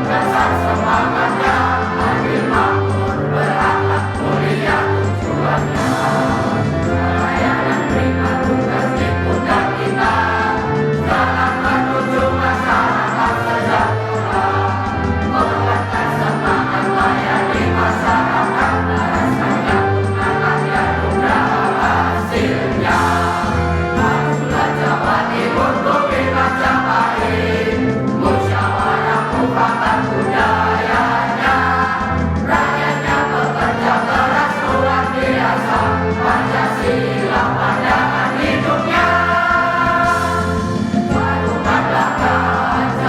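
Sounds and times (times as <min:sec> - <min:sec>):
choir singing a march: 0:00.0 - 0:43.0
instrumental accompaniment with beat: 0:00.0 - 0:43.0.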